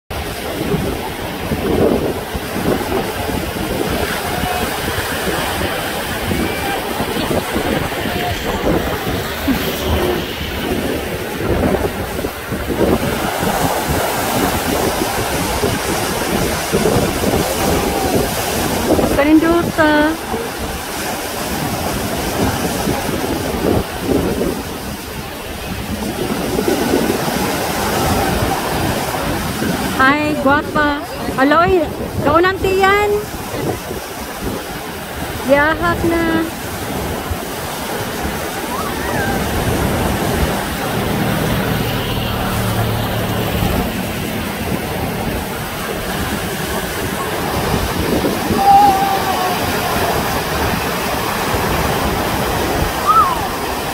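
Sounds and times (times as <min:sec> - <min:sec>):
waves breaking: 0:00.1 - 0:53.9
wind buffeting microphone: 0:00.1 - 0:53.9.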